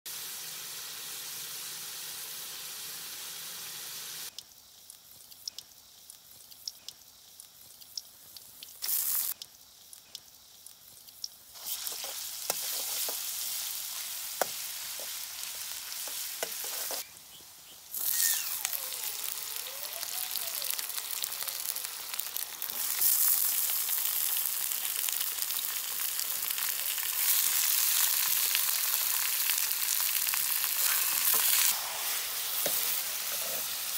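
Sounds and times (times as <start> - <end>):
food sizzling in hot oil: 0.1 - 33.9.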